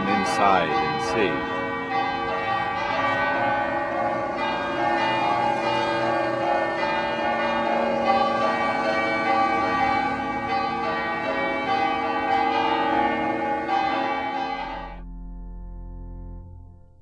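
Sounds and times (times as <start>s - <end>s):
church bells pealing: 0.0s - 15.4s.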